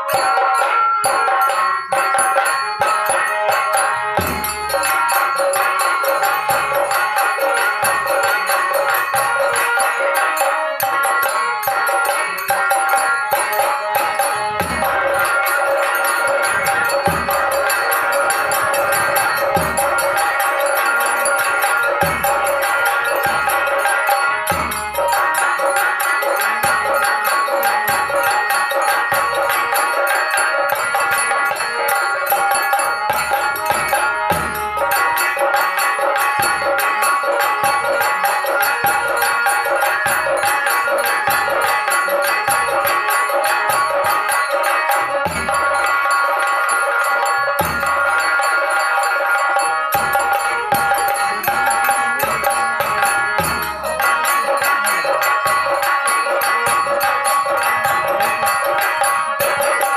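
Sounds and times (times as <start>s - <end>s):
held instrumental tones: 0.0s - 59.9s
kettle drums beating: 0.0s - 59.9s.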